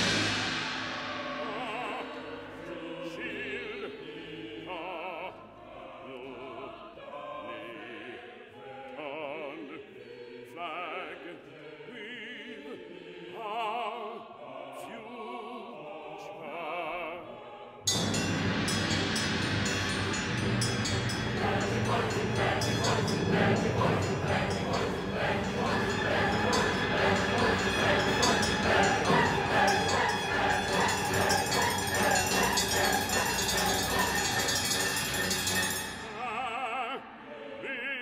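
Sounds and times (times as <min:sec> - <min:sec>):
baritone singing with vibrato: 0:00.0 - 0:38.0
choir sustained chords: 0:00.0 - 0:38.0.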